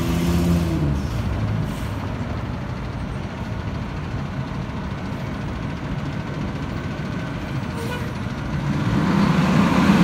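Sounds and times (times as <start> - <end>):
bus engine driving past: 0.0 - 10.0.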